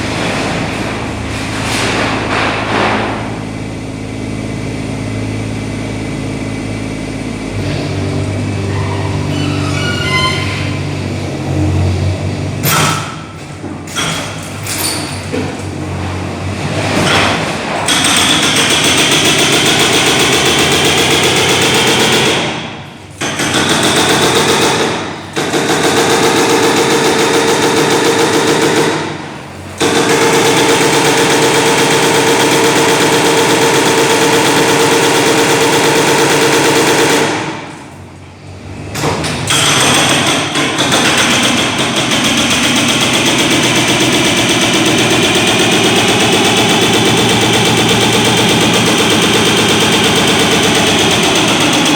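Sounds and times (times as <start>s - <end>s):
demolition breaker hammering: 0.0s - 11.4s, 12.4s - 51.9s.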